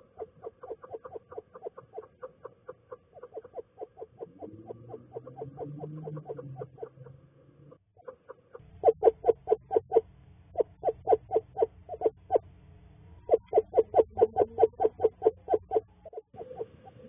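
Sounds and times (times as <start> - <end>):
owl calling: 0.0 - 7.2, 8.0 - 12.5, 13.1 - 17.0.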